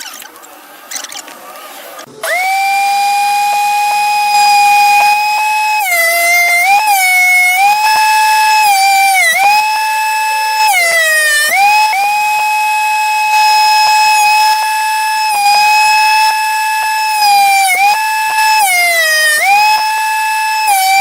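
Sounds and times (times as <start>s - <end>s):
power tool motor whining: 0.0s - 21.0s.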